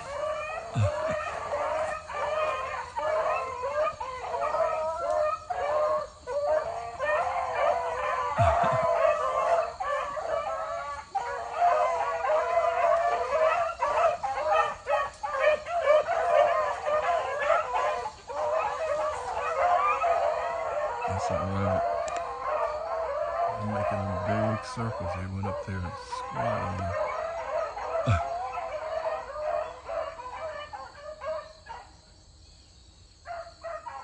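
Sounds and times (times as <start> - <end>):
pack of dogs baying: 0.0 - 32.0, 33.2 - 34.0.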